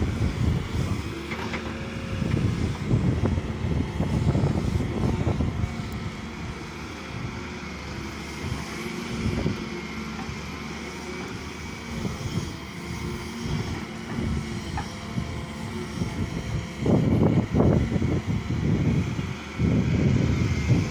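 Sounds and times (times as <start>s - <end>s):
heavy diesel engine running: 0.0s - 20.9s.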